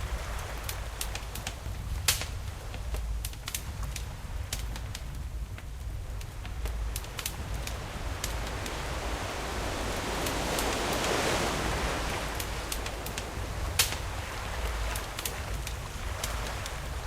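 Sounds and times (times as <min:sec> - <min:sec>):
campfire crackling and popping: 0:00.0 - 0:17.0
waves washing in: 0:00.0 - 0:17.0.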